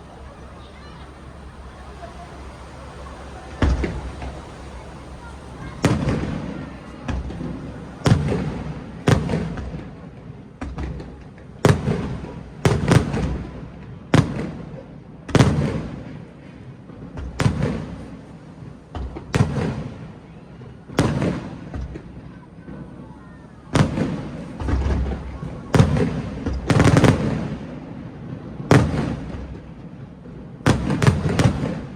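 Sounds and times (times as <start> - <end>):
fireworks booming with echo: 0.0 - 22.3, 23.8 - 31.9.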